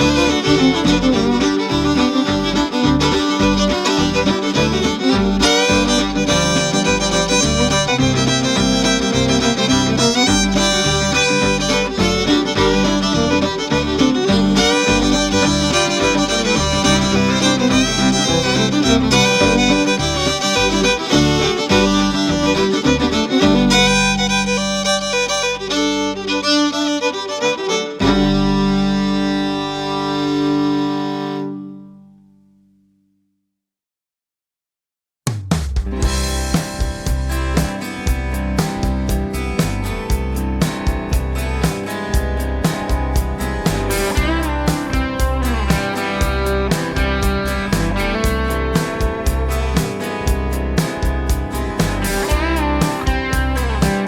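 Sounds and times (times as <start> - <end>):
instrumental music with beat: 0.0 - 32.1, 35.3 - 54.0.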